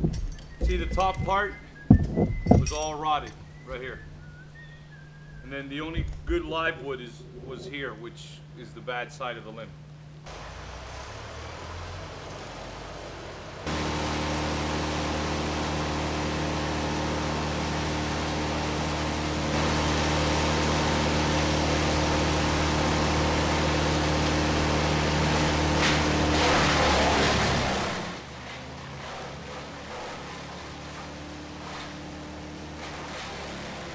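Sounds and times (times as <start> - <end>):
engine humming: 0.0 - 33.9.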